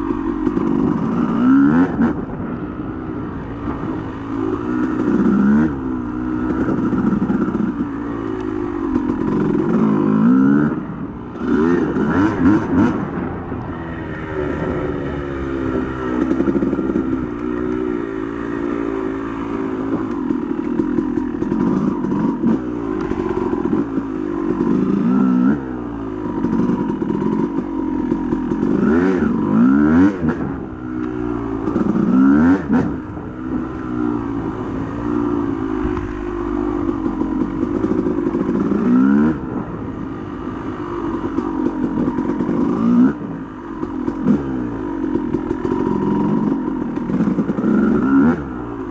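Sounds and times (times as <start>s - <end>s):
dirt bike engine revving: 0.0s - 2.6s, 3.8s - 13.4s, 15.7s - 48.9s.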